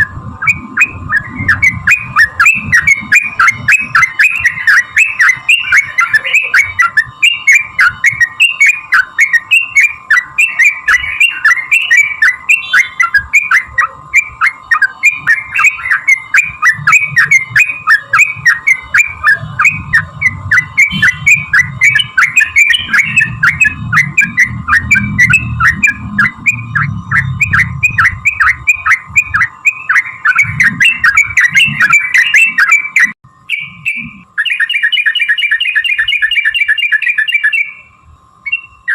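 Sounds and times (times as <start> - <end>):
bird call: 0.0 - 38.9.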